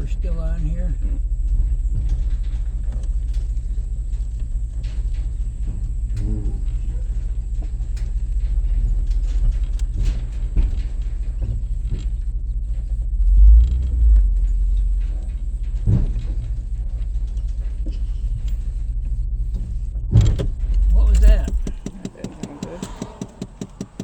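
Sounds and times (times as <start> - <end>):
heavy vehicle bumps: 0.0 - 24.0
rattles and knocks: 0.0 - 24.0
vehicle engine rumbling: 0.0 - 24.0.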